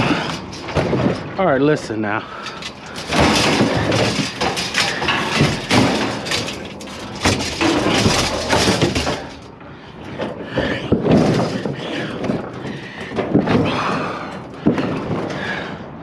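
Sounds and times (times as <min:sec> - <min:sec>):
metal scraping and clunking: 0:00.0 - 0:15.3.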